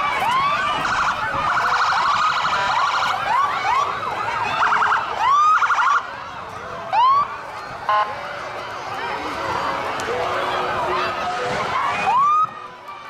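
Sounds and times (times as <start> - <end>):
police sirens whooping: 0.0 - 13.0.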